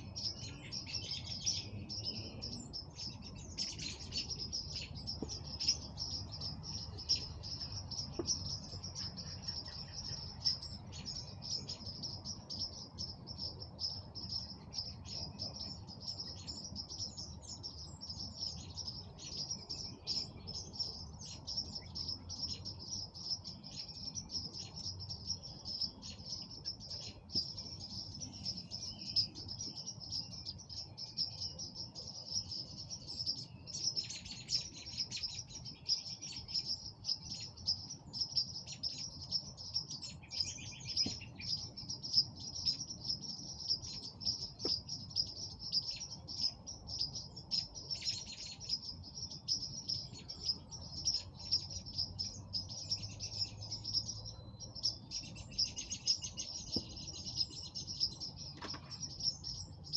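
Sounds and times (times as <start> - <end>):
bird chirps: 0.0 - 59.9.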